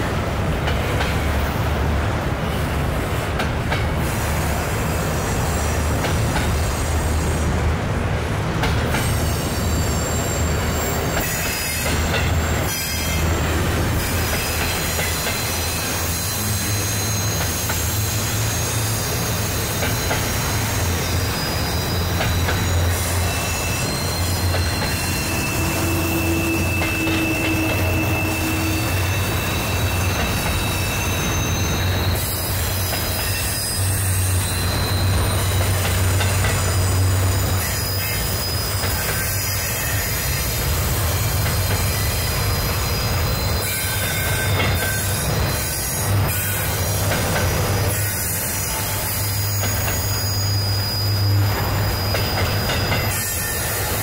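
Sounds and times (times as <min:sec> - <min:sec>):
freight train wheels rumbling on rail: 0:00.0 - 0:54.0
high-pitched wheel squeals: 0:09.0 - 0:54.0.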